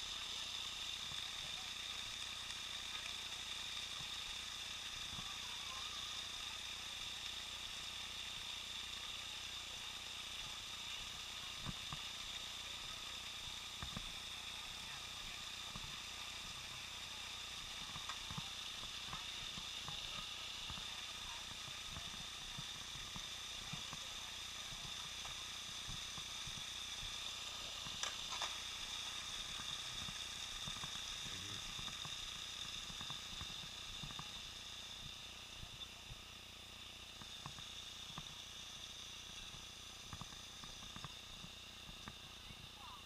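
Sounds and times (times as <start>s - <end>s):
camera recording hiss with whine: 0.0s - 43.0s.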